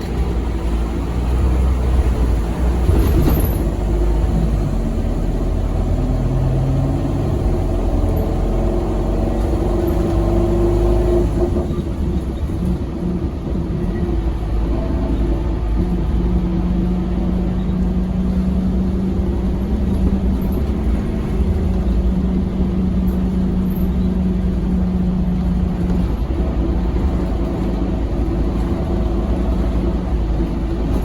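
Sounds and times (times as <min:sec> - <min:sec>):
bus engine rumbling: 0:00.0 - 0:31.0.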